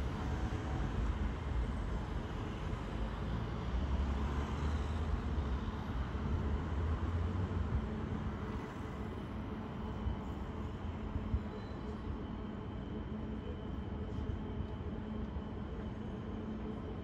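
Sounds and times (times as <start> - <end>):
city traffic rumble: 0.0 - 17.0
distant electric train: 0.0 - 17.0.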